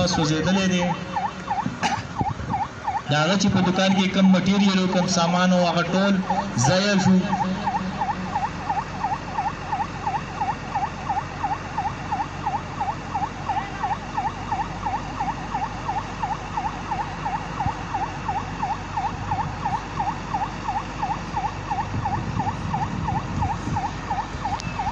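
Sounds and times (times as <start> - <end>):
fire engine siren yelping: 0.0 - 24.9.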